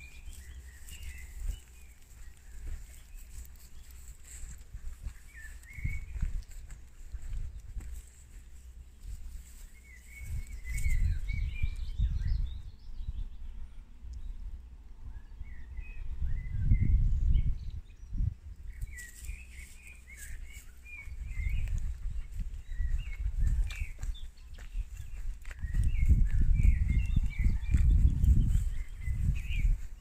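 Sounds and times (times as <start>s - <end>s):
small birds chirping: 0.0s - 14.5s, 15.4s - 30.0s
wind rumble on microphone: 0.0s - 30.0s.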